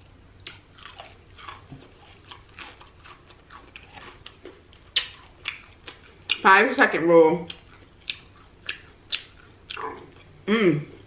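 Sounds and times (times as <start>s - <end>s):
chewing crunchy fried food: 0.4s - 6.5s, 7.4s - 10.4s.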